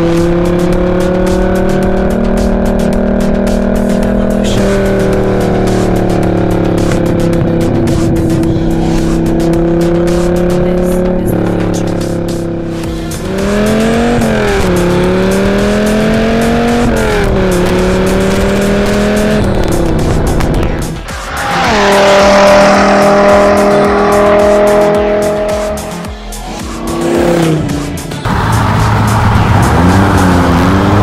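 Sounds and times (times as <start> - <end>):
car engine revving through gears: 0.0 - 31.0.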